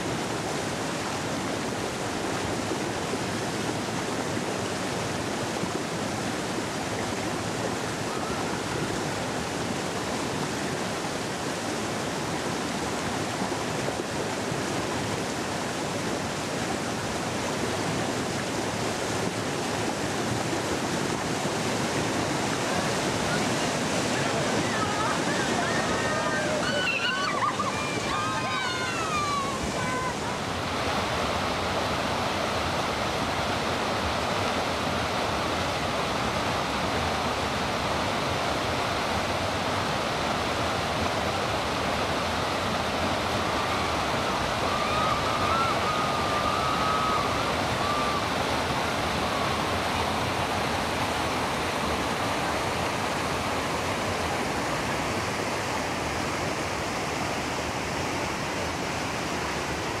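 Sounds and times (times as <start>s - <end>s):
water rushing over rocks: 0.0s - 60.0s.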